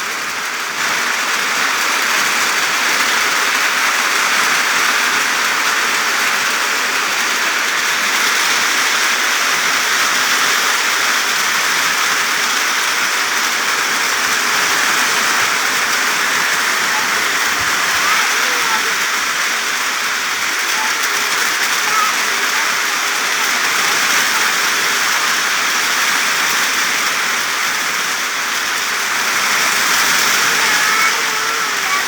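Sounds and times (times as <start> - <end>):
rain on leaves: 0.0 - 32.0.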